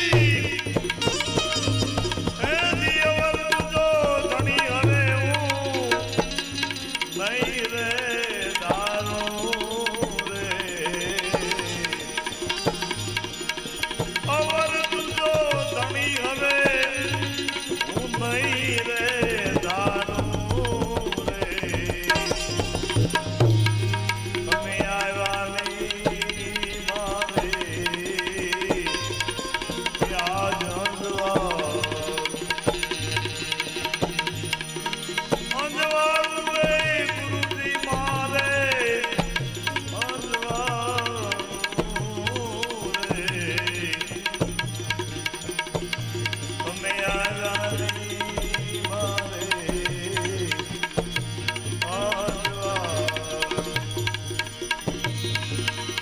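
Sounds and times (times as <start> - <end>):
devotional music with tabla: 0.0 - 56.0.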